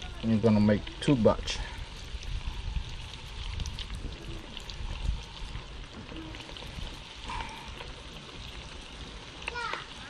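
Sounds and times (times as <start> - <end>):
fish sizzling in frying oil: 0.0 - 10.0.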